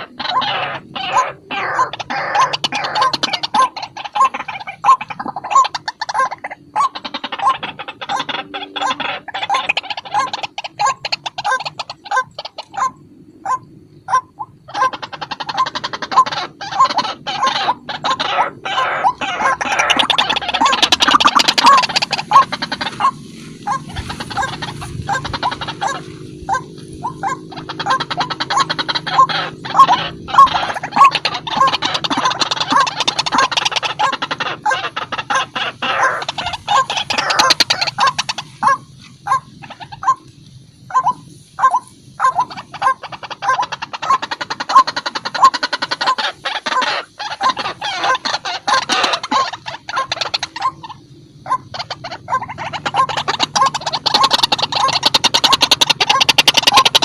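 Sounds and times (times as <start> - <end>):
waterhen calling: 0.0 - 57.0.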